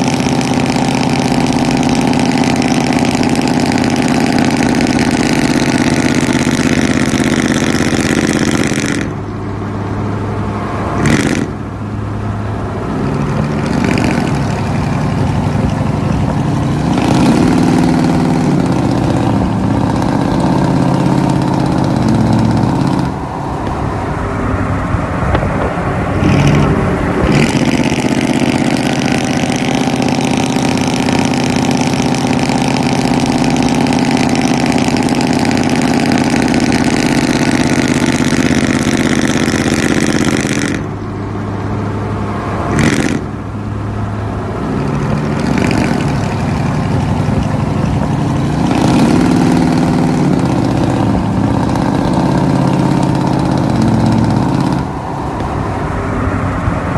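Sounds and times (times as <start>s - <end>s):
truck engine with loud exhaust: 0.0s - 56.9s.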